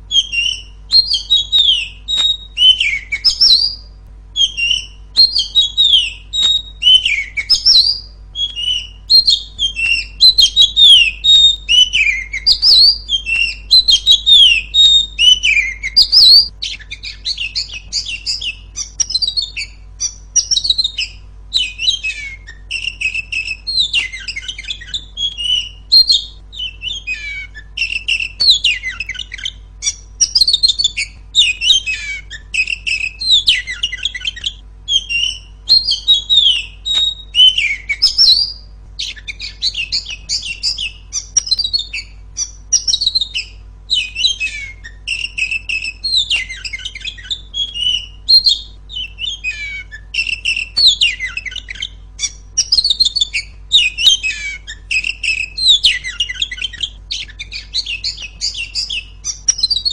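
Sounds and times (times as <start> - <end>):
bird singing chirps and whistles: 0.0 - 59.9
faint low hum: 0.0 - 59.9.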